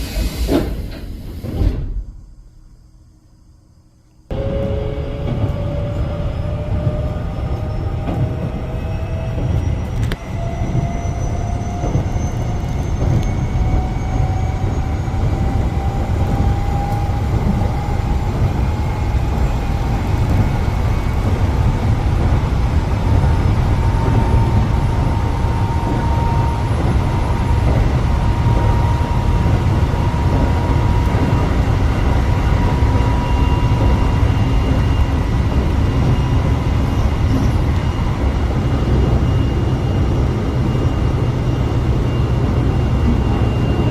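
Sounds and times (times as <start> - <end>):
train low rumble: 0.0 - 43.9.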